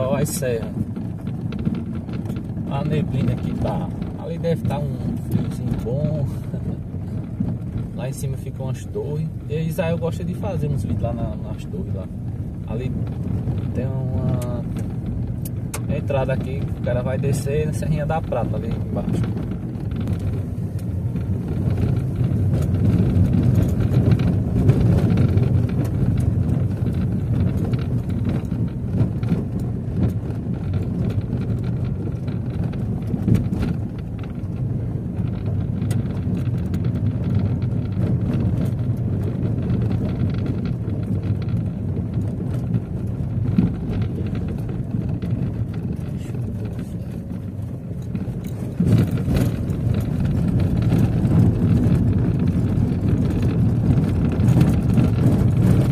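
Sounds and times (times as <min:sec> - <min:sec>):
engine and tyre rumble: 0:00.0 - 0:55.9
knocks and rattles: 0:00.0 - 0:55.9.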